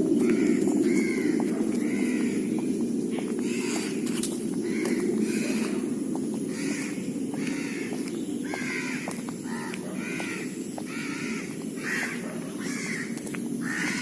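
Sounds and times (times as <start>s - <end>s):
crows cawing: 0.0s - 14.0s.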